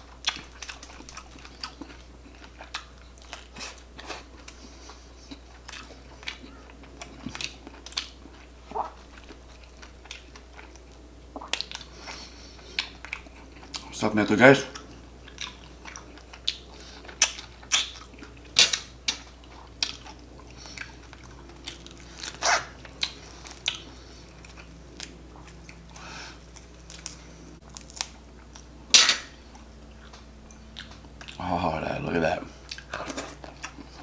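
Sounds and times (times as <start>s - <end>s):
person chewing: 0.0s - 14.0s, 14.7s - 31.5s, 32.5s - 34.0s.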